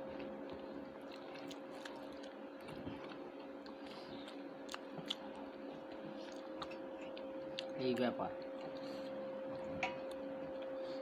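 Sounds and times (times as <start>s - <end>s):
person chewing food: 0.0s - 7.8s, 8.4s - 11.0s
steady low hum: 0.0s - 11.0s.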